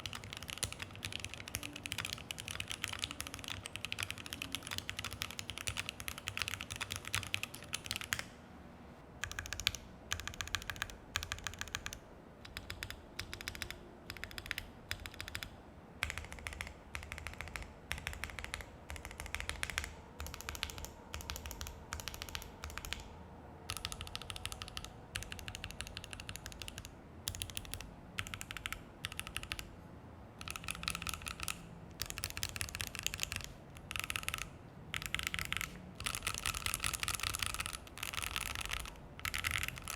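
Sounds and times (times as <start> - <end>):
mechanical keyboard typing: 0.0 - 8.3, 9.2 - 23.1, 23.7 - 29.7, 30.4 - 39.9.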